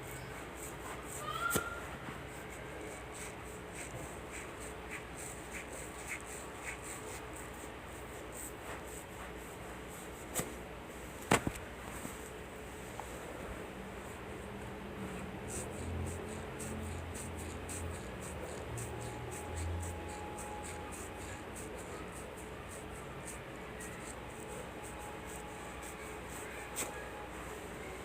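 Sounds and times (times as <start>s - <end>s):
room noise hiss: 0.0s - 28.0s.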